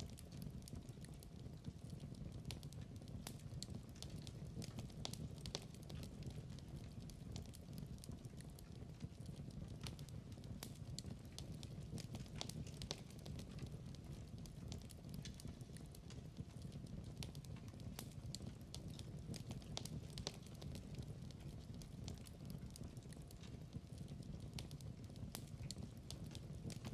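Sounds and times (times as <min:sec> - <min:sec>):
burning wood popping and snapping: 0:00.0 - 0:26.9
low rumble of flames: 0:00.0 - 0:26.9.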